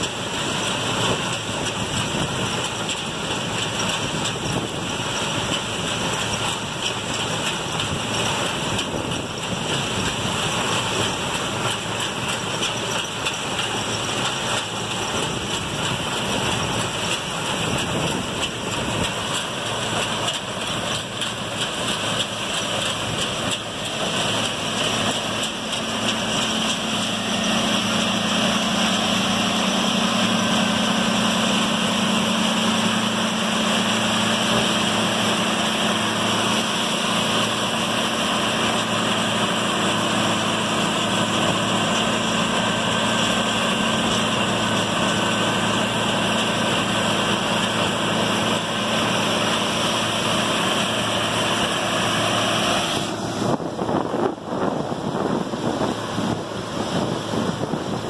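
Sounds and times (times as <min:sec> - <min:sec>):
combine engine drone: 0:00.0 - 0:58.0
threshing machinery rushing: 0:00.0 - 0:58.0.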